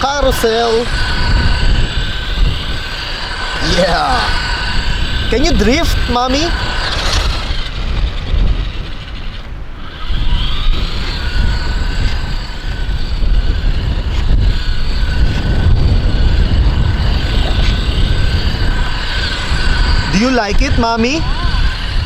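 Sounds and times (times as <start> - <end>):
steady low rumble: 0.0 - 22.0
toy car electric motor whining: 0.0 - 22.0.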